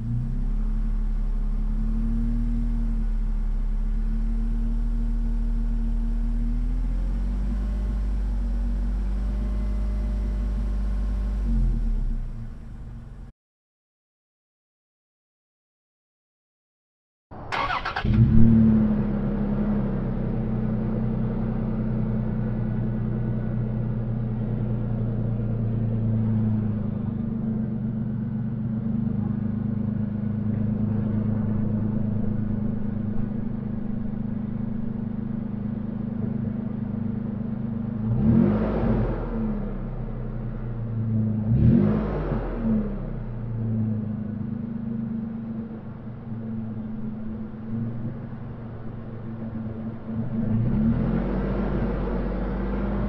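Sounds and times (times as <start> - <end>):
car engine idling and revving: 0.0 - 13.3, 17.3 - 53.0.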